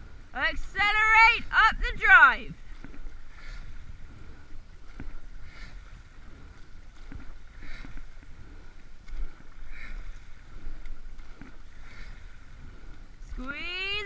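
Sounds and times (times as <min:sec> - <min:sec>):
oar blades splashing: 0:00.0 - 0:14.0
wind rumble on microphone: 0:00.0 - 0:14.0.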